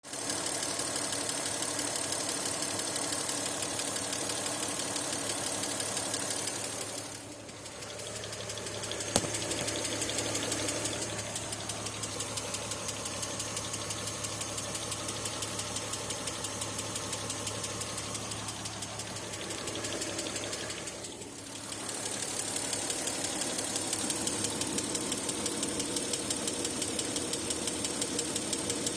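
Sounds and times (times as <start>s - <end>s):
car engine idling: 0.1s - 28.9s.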